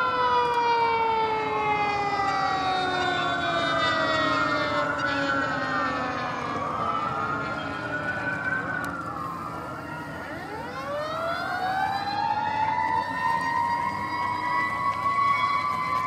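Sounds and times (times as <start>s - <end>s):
emergency sirens wailing: 0.0s - 16.0s
siren winding up: 0.0s - 16.0s.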